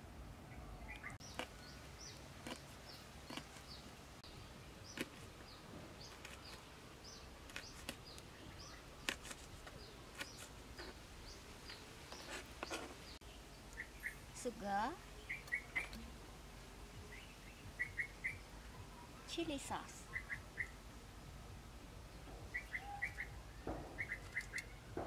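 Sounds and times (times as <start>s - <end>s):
bird chirping: 0.5s - 16.3s, 16.9s - 20.9s, 21.8s - 25.0s.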